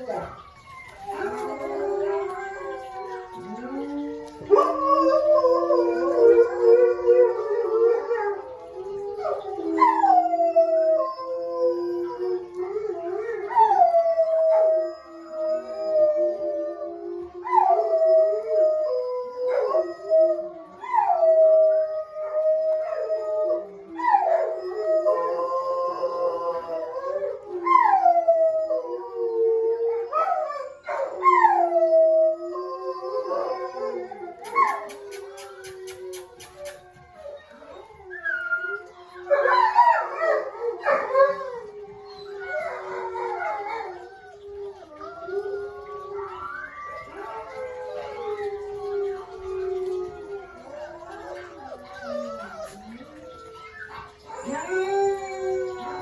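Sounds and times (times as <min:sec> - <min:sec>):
dogs howling: 0:00.0 - 0:56.0.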